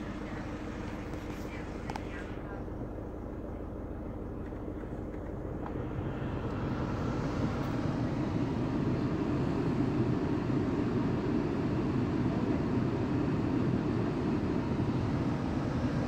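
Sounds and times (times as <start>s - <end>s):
car blower fan rushing air: 0.0s - 16.0s.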